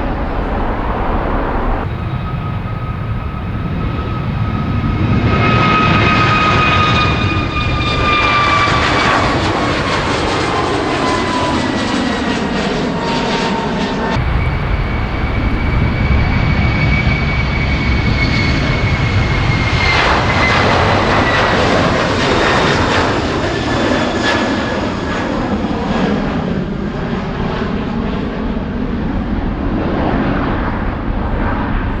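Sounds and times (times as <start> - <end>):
jet engine roaring with whine: 0.0 - 32.0.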